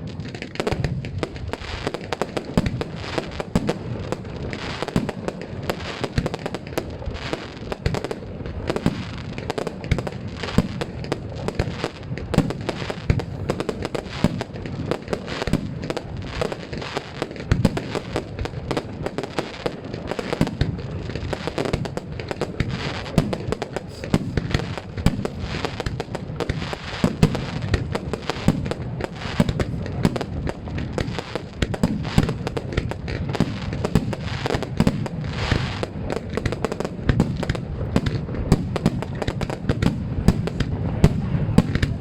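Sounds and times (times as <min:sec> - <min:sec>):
fireworks barrage: 0:00.0 - 0:42.0.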